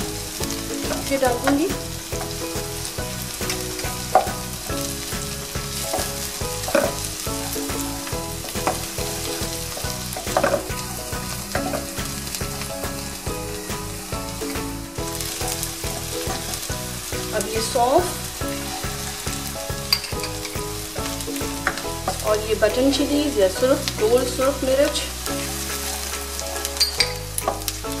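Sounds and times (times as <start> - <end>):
onions sizzling in hot oil: 0.0 - 28.0
spatula scraping pan: 0.0 - 28.0.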